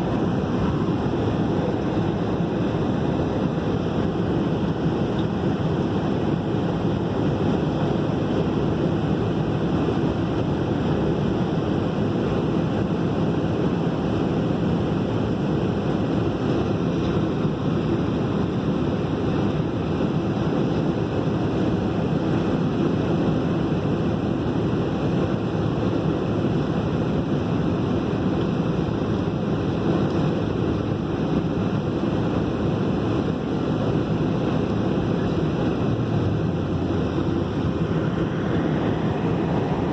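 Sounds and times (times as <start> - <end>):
airliner cabin noise: 0.0 - 39.9
jet engines running at low power: 0.0 - 39.9.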